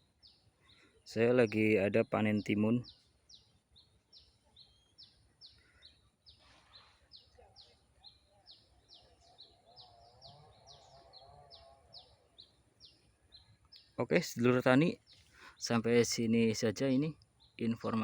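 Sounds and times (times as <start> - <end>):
rapid bird chirps: 0.0 - 18.0.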